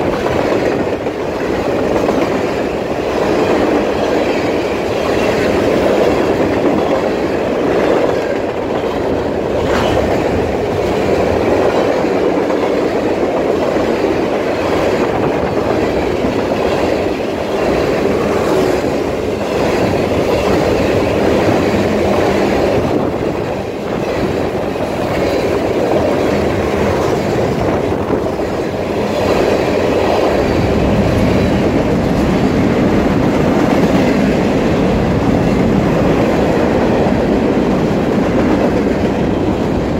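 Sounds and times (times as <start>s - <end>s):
freight train passing: 0.0s - 39.9s
steel wheels rattling on rails: 0.0s - 39.9s.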